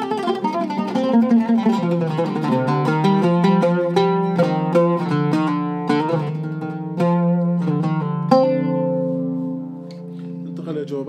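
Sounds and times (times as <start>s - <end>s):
oud plucked notes: 0.0s - 11.0s.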